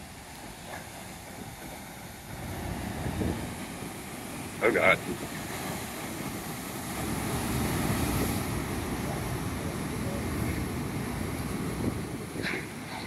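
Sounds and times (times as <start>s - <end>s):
heavy ocean surf crashing: 0.0s - 13.0s
wind buffeting microphone: 0.0s - 13.0s.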